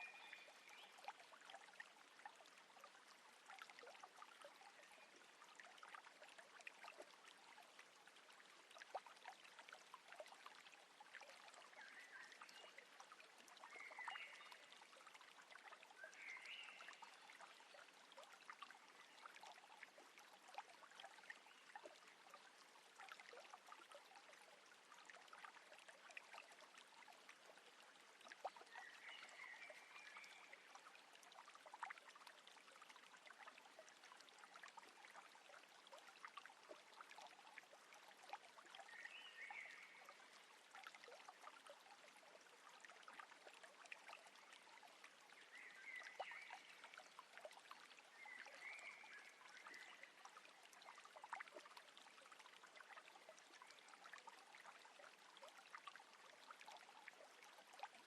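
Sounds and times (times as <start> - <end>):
small ticks and splashes: 0.0 - 58.0
water trickling and lapping: 0.0 - 58.0.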